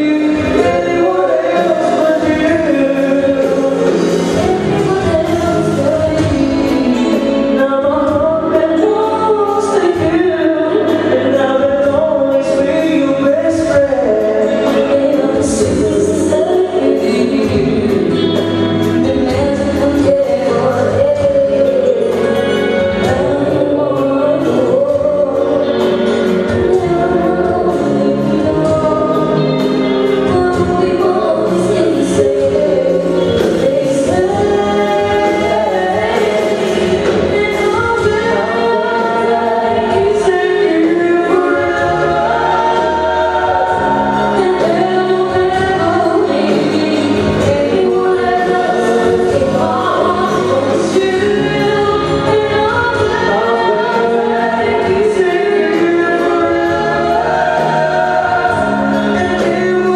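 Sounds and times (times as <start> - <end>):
live band playing: 0.0 - 59.9
person singing: 0.0 - 59.9
steady drum beat: 0.0 - 59.9.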